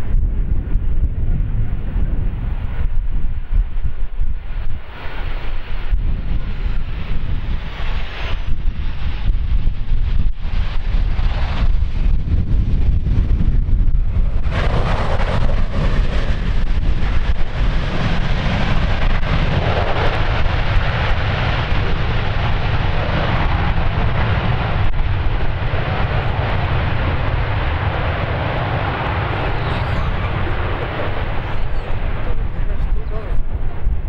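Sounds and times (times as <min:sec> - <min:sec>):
jet engines landing: 0:00.0 - 0:34.0
wind rumble on microphone: 0:00.0 - 0:34.0.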